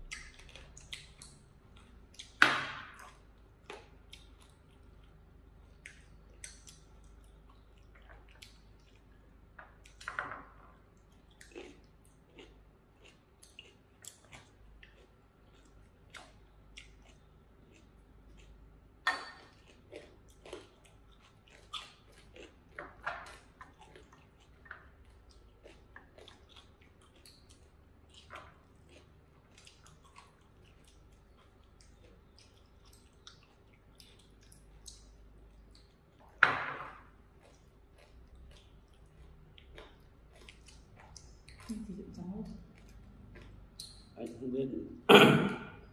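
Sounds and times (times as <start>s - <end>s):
people chewing: 0.0s - 10.1s, 10.7s - 36.4s, 37.0s - 44.4s.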